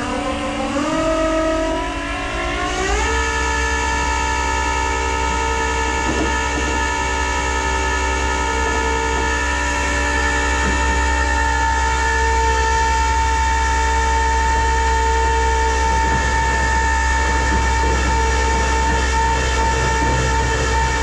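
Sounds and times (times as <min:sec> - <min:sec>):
hydraulic pump whine: 0:00.0 - 0:21.0
truck engine low hum: 0:00.0 - 0:21.0.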